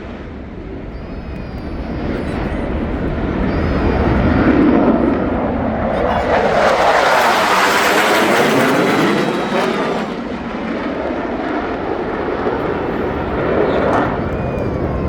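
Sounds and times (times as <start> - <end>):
jet aircraft roar: 0.0 - 15.0.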